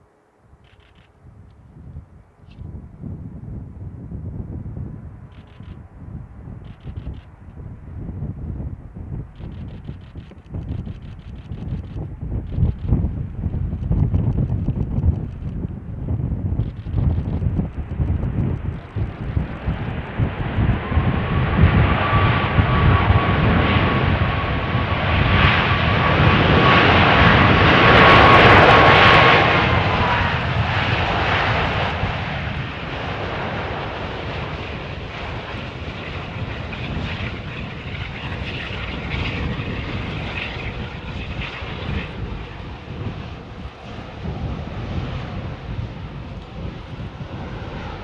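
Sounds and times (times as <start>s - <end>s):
jet engines roaring: 8.8s - 48.0s.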